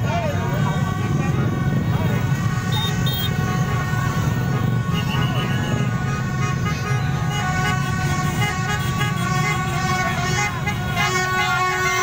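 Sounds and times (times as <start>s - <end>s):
vehicle horns honking: 0.0s - 12.0s.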